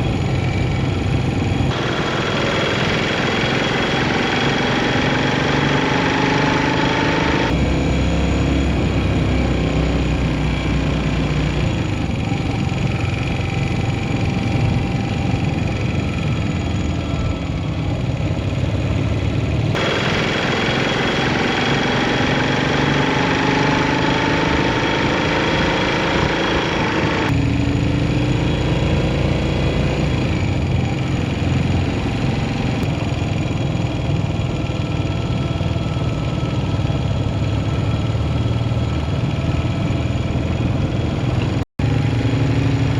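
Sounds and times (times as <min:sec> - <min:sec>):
motorcycle engine running: 0:00.0 - 0:42.9
rushing riding noise: 0:00.0 - 0:42.9.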